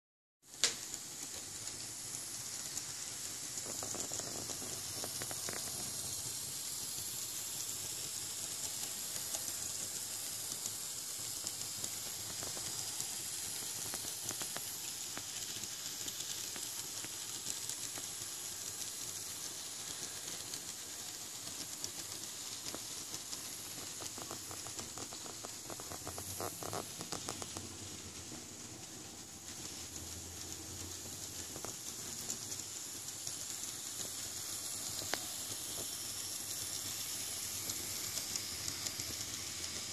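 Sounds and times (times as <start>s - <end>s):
model train motor hiss: 0.5s - 39.9s
rail clicking: 0.6s - 39.9s.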